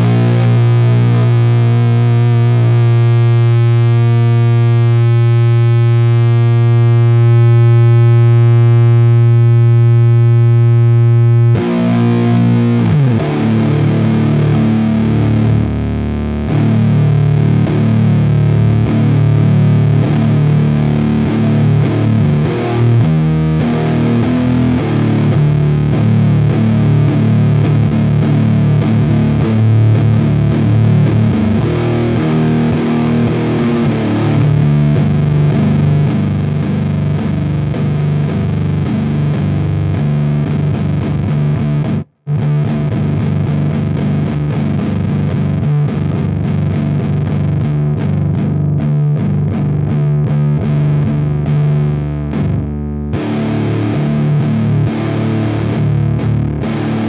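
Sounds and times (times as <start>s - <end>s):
distorted electric guitar chugging: 0.0s - 57.0s.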